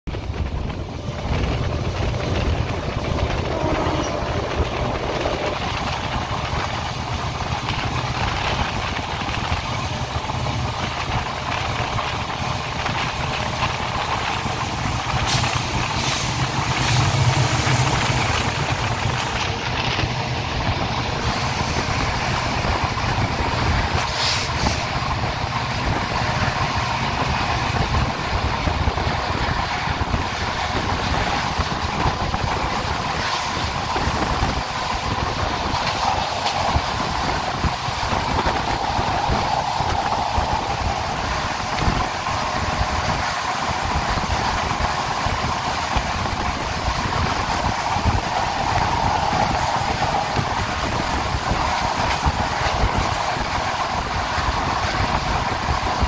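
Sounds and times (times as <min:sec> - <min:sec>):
locomotive engine drone: 0:00.1 - 0:56.0
rushing air: 0:00.1 - 0:56.0
wheel and rail noise: 0:00.1 - 0:56.0.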